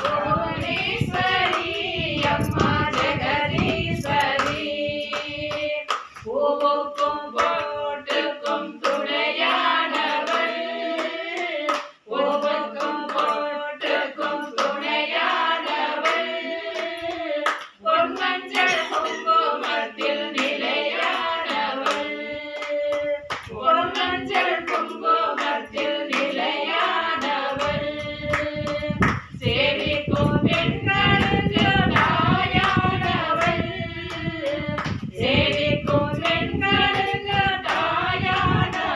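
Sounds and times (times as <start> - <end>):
hand clapping: 0.0 - 38.9
women singing together: 0.0 - 38.9.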